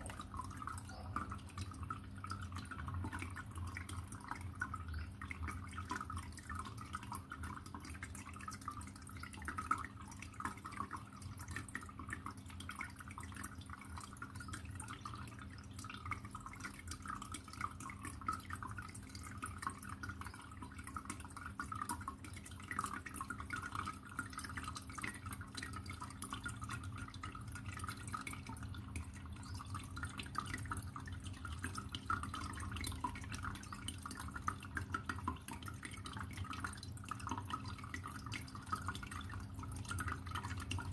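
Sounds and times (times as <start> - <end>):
low steady hum: 0.0 - 40.9
water trickling and dripping: 0.0 - 40.9.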